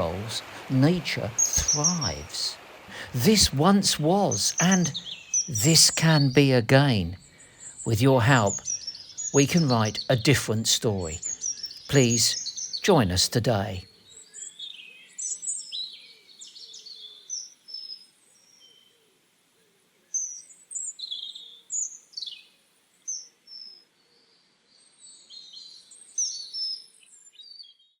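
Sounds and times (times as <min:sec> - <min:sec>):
songbirds singing: 0:00.0 - 0:19.2, 0:20.1 - 0:28.0.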